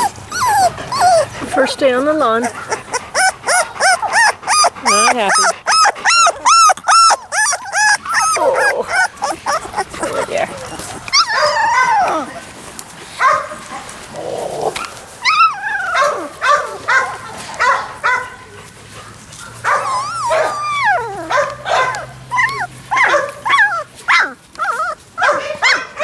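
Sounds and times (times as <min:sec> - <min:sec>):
puppies whining and yelping: 0:00.0 - 0:12.6, 0:14.1 - 0:17.0, 0:19.6 - 0:25.9.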